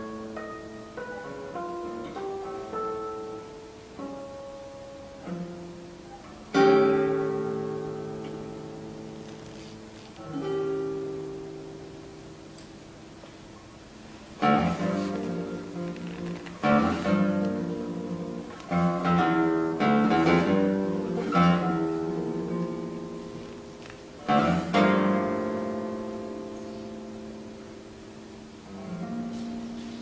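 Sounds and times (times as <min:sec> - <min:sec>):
classical guitar chords: 0:00.0 - 0:30.0.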